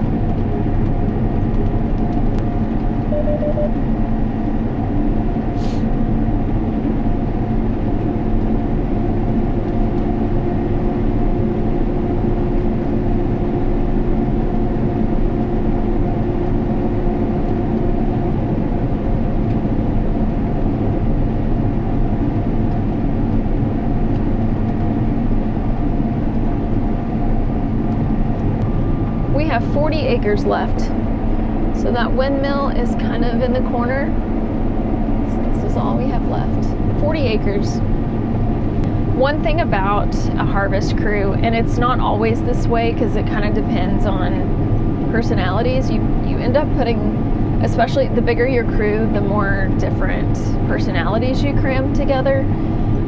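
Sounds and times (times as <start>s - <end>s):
heavy machinery droning: 0.0s - 53.0s.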